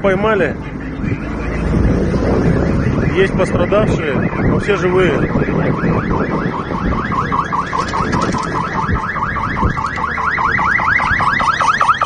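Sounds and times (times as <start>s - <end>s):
ambulance siren yelping: 1.3s - 12.0s.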